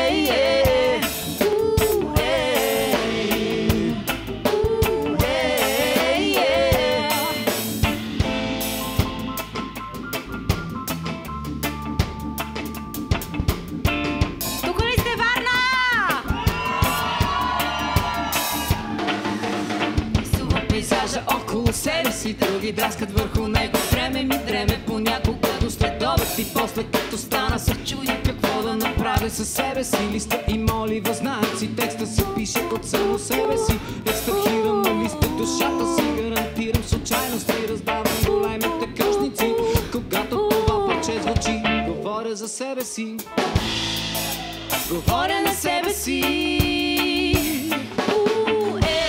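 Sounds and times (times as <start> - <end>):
reggae band playing: 0.0 - 49.0.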